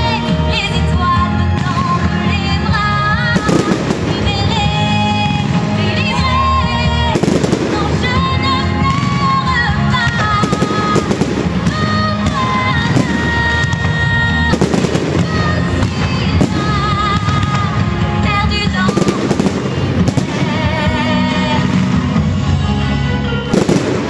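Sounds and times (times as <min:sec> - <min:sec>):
fireworks bangs and crackles: 0:00.0 - 0:22.4, 0:23.4 - 0:24.0
music with sustained notes: 0:00.0 - 0:24.0.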